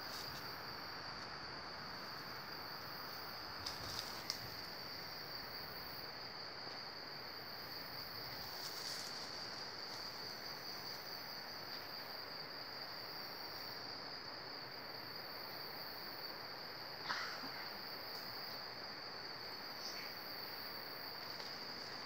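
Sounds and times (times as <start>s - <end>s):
insects droning: 0.0s - 22.0s
soft hiss: 0.0s - 22.0s.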